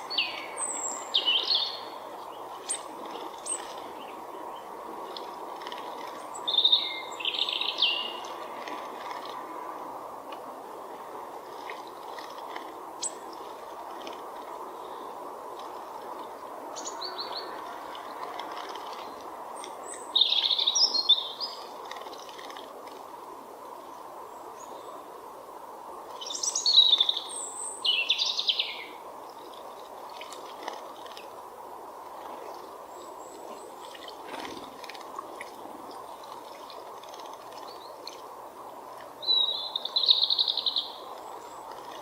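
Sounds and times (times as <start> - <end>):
songbirds chirping and twittering: 0.0 - 42.0.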